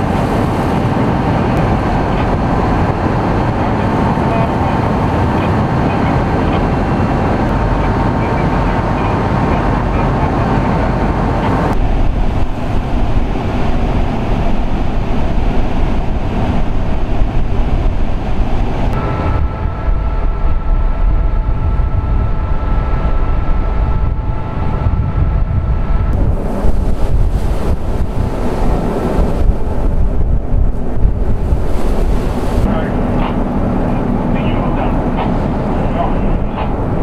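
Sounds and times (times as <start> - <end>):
faint steady whine: 0.0 - 37.0
low rumble of boat engines: 0.0 - 37.0
wind on microphone: 0.0 - 37.0.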